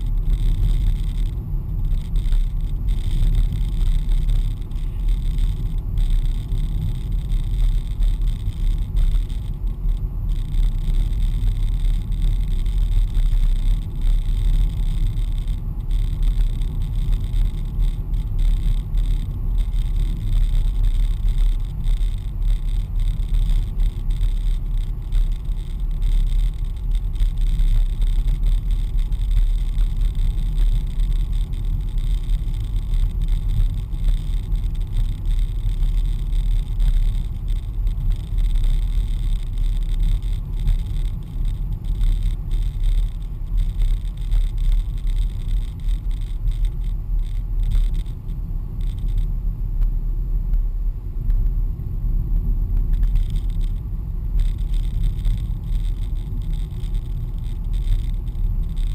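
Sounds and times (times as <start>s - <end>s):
car engine and tyre rumble: 0.0s - 58.9s.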